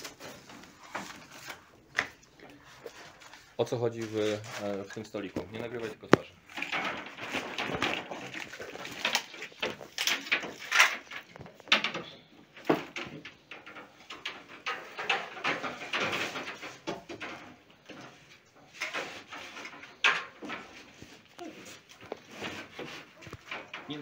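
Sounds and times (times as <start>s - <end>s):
plastic pipe scraping: 0.0s - 24.0s.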